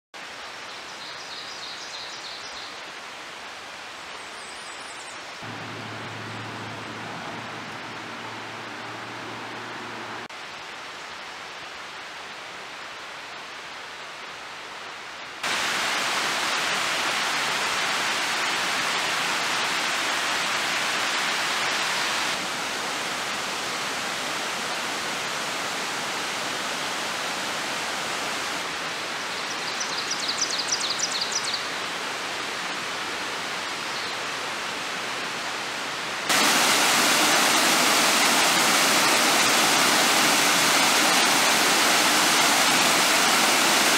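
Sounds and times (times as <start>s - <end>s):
creek water rushing over waterfalls: 0.2s - 43.9s.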